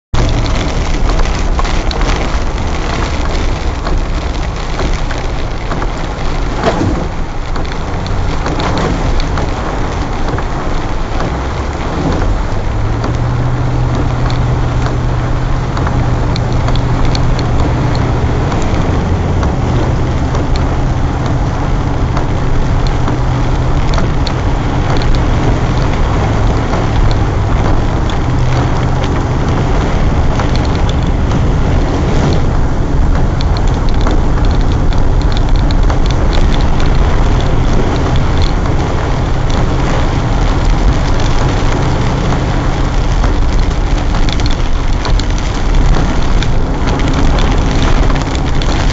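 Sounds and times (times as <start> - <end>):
car engine droning: 0.1 - 48.9
water rushing and spraying: 0.2 - 48.9.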